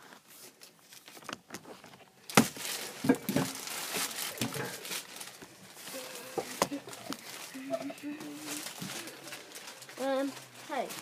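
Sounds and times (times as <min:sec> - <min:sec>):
plastic crinkling and rubbing: 0:00.0 - 0:11.0
plastic packaging rustling: 0:00.0 - 0:11.0.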